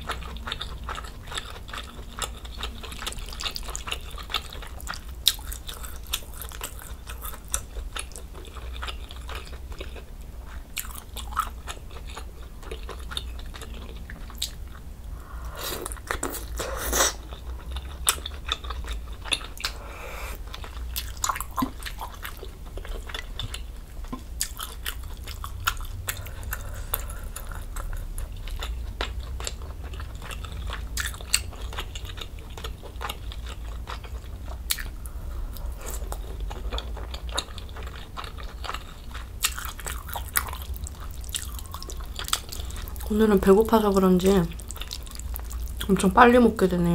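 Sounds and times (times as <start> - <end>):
chewing and slurping noodles: 0.0 - 43.1, 44.5 - 45.9
steady low hum: 0.0 - 46.9.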